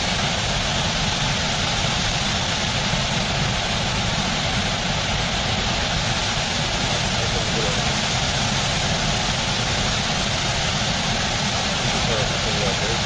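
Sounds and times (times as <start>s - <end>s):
water pouring down waterfall: 0.0s - 13.0s.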